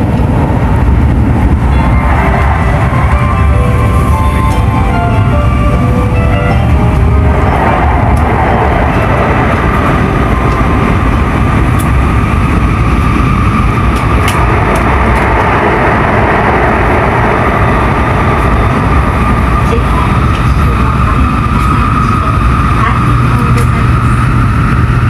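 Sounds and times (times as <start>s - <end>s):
train rumble: 0.0s - 25.0s
steady high tone: 1.2s - 24.2s.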